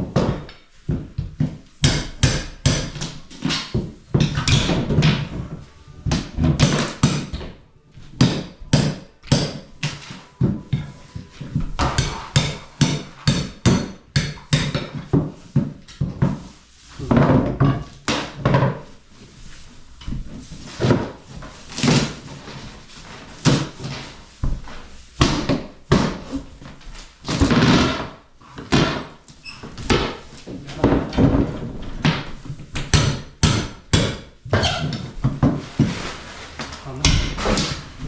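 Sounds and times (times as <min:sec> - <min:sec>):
knocks and bangs of repair work: 0:00.0 - 0:18.9, 0:20.0 - 0:38.0.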